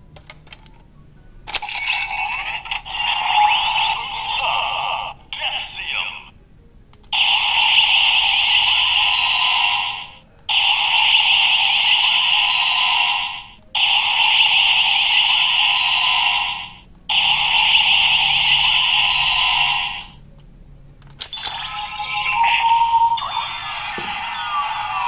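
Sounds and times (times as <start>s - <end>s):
toy electronic sound effect: 1.5s - 6.2s, 7.1s - 20.2s, 21.2s - 25.0s.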